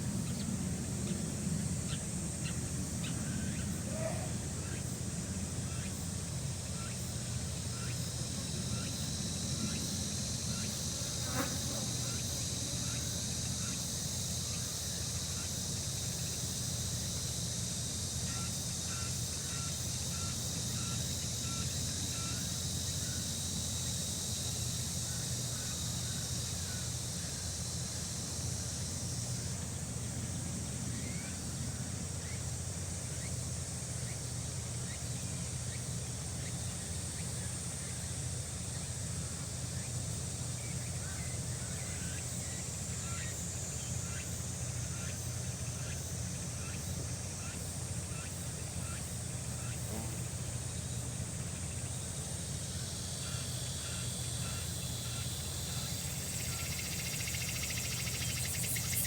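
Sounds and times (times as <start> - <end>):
insect chorus buzzing: 0.0 - 59.0.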